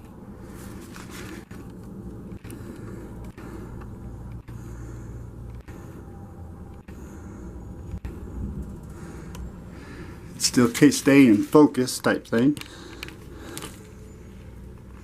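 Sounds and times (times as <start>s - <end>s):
faint hum: 0.0s - 15.0s
low background rumble: 0.0s - 15.0s.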